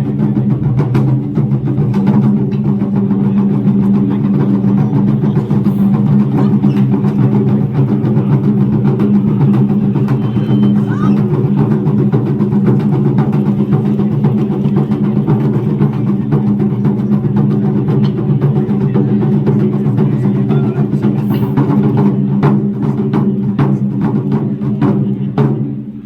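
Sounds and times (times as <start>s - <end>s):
taiko drum roll: 0.0s - 26.0s.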